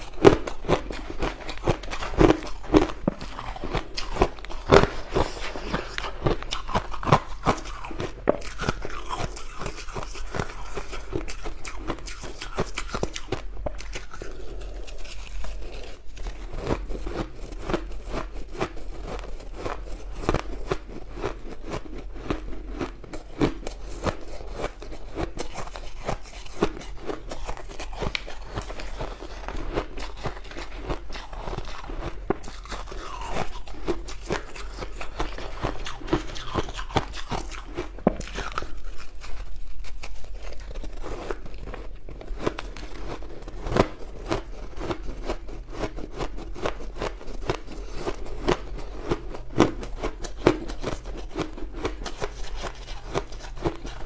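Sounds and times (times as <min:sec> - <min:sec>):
chewing crushed ice: 0:00.0 - 0:54.0.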